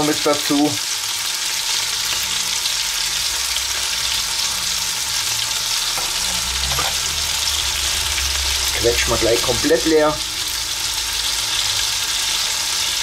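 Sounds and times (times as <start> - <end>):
tomatoes sizzling in hot fat: 0.0 - 13.0.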